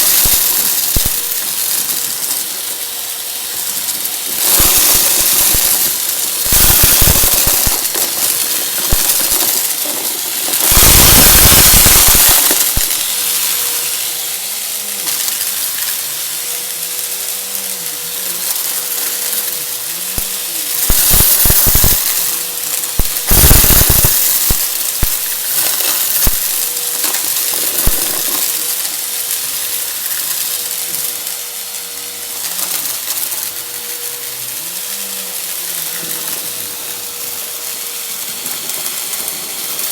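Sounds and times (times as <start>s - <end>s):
debris crunching in nozzle: 0.0s - 39.9s
vacuum cleaner motor whine: 0.0s - 39.9s.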